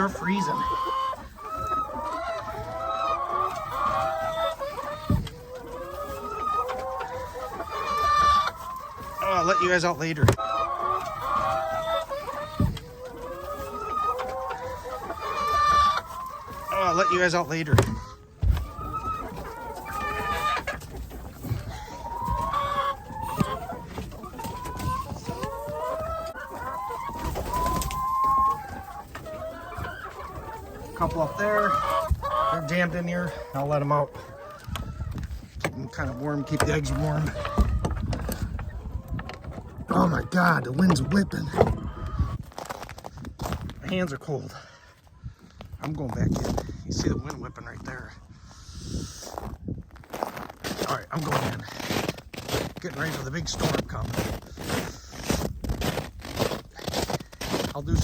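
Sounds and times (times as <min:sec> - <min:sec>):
hens clucking and squawking: 0:00.0 - 0:58.0.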